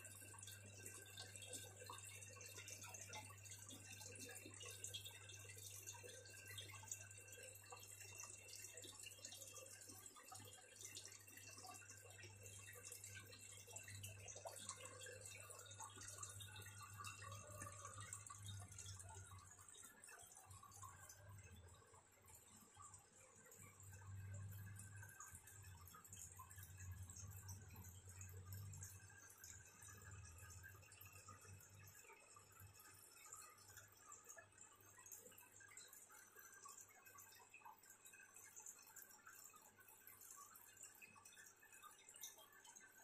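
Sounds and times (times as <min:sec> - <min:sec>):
aquarium pump hum: 0:00.0 - 0:43.0
water trickling and dripping: 0:00.0 - 0:43.0.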